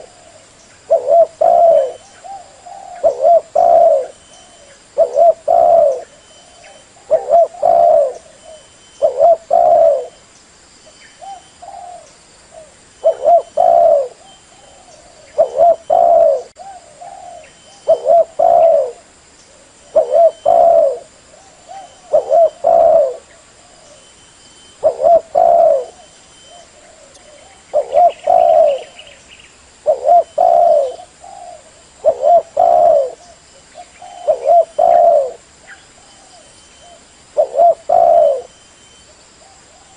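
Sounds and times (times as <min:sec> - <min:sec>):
dove cooing: 0:00.0 - 0:10.2, 0:11.2 - 0:29.2, 0:29.8 - 0:39.9.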